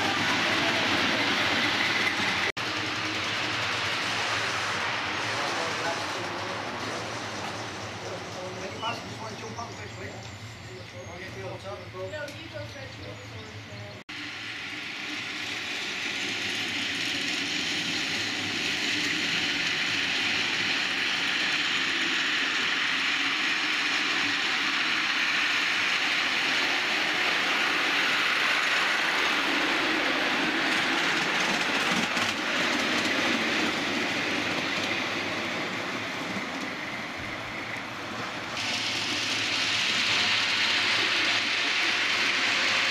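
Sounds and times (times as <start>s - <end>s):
train wheels rattling on track: 0.0s - 42.9s.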